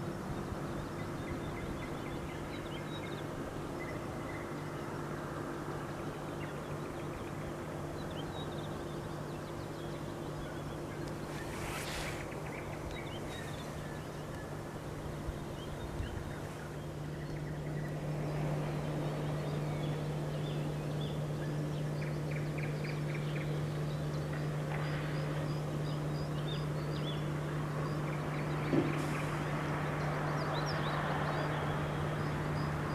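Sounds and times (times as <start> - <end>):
low hum of town traffic: 0.0 - 32.9
songbirds chirping and trilling: 0.0 - 32.9.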